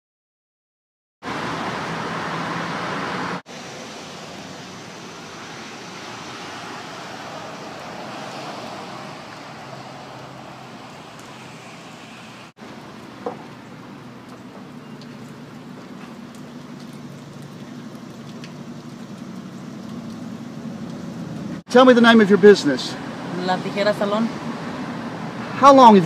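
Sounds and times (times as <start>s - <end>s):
outdoor background noise: 1.2s - 26.0s.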